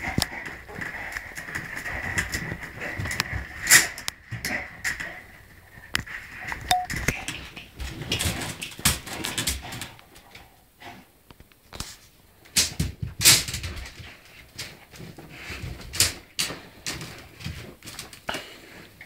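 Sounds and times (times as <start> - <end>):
dog scrabbling in wicker basket: 0.0 - 11.0, 11.8 - 19.0.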